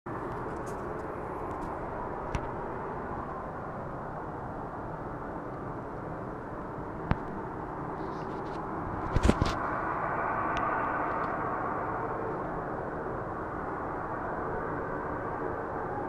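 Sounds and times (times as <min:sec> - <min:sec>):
low droning rumble with hum: 0:00.1 - 0:16.0.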